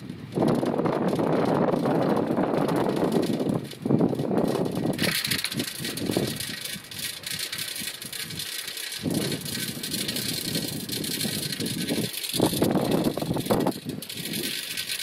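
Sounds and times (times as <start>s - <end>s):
bicycle tyres rolling on wooden planks: 0.0s - 15.0s
rapid faint ticks: 0.0s - 15.0s.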